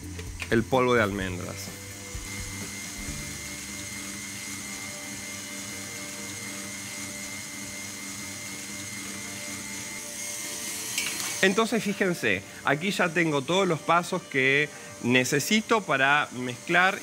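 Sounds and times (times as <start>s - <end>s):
stand mixer motor humming: 1.2s - 17.0s.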